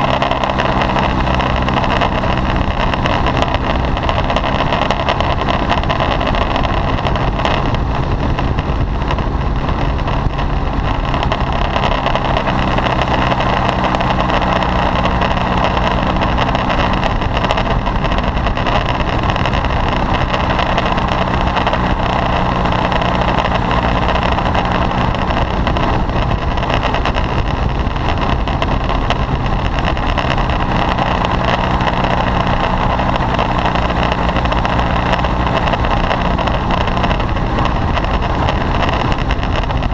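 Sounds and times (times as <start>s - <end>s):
paramotor engine and propeller drone: 0.0s - 39.9s.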